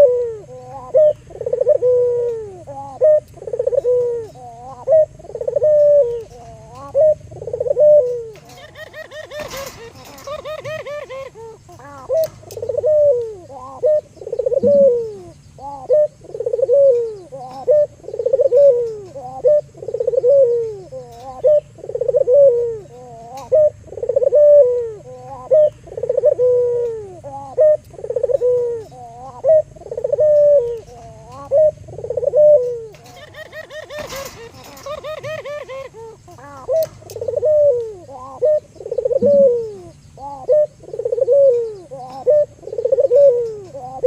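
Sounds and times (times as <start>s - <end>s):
dove cooing: 0.0s - 44.0s.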